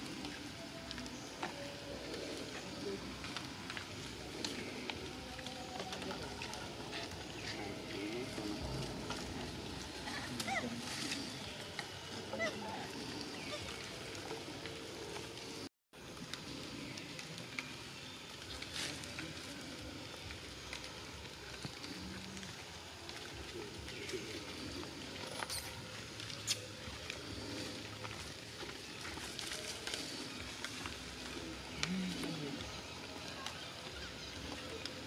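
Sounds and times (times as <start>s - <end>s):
monkeys rustling leaves: 0.0s - 35.0s
steady outdoor hiss: 0.0s - 35.0s.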